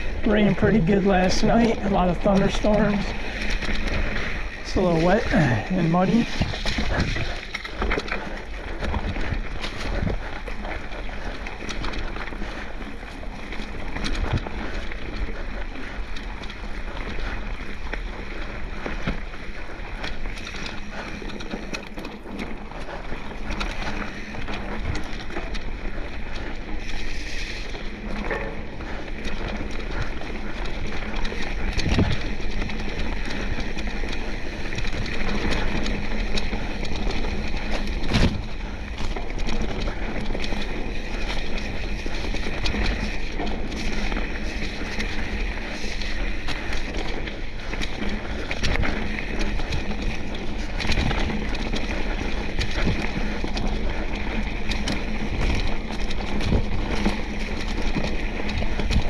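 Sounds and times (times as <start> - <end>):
bike tyre and frame rattle: 0.0 - 59.0
wheels knocking on bumps: 0.0 - 59.0.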